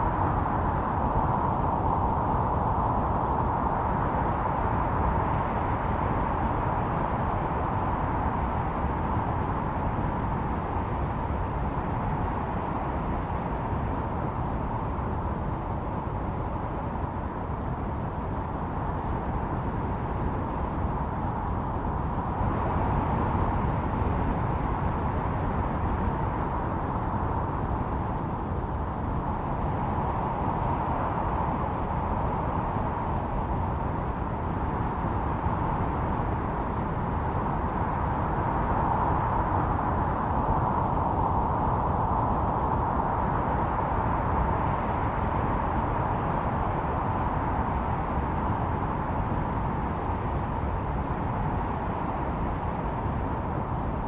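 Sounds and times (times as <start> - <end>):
howling snowstorm wind: 0.0 - 54.0.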